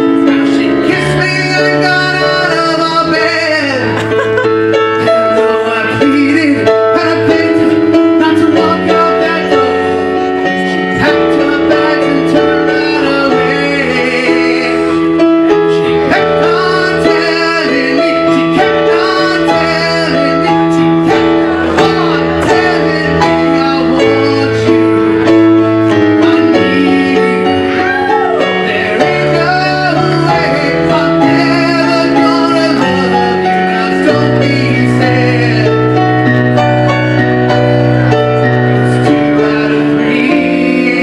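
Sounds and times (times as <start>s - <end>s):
electric keyboard: 0.0s - 41.0s
man singing into a microphone: 0.0s - 41.0s.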